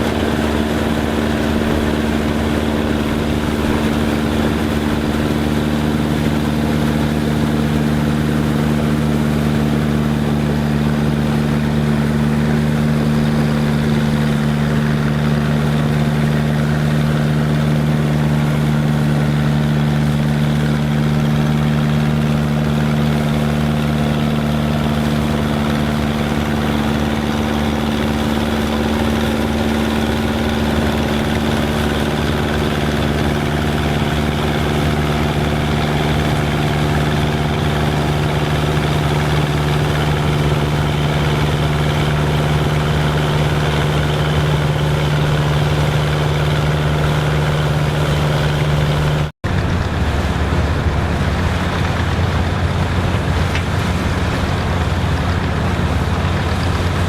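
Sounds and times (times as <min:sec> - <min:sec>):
farm machinery engine running: 0:00.0 - 0:57.0.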